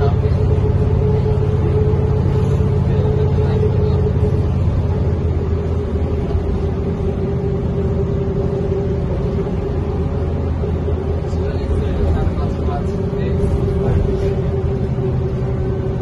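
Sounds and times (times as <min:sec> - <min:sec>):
bus engine rumble: 0:00.0 - 0:16.0
mid-pitched whine: 0:00.0 - 0:16.0.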